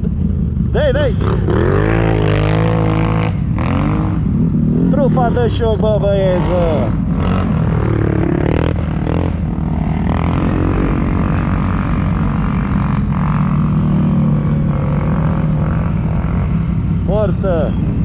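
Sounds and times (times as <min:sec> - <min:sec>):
atv engines droning: 0:00.0 - 0:18.0.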